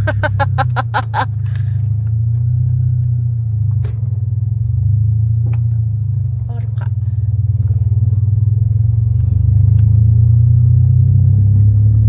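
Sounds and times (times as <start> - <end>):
car driving rumble inside cabin: 0.0 - 12.0.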